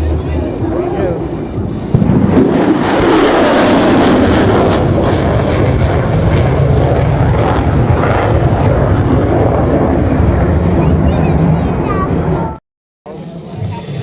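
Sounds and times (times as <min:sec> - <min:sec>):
fighter jet flying past: 0:00.0 - 0:14.0.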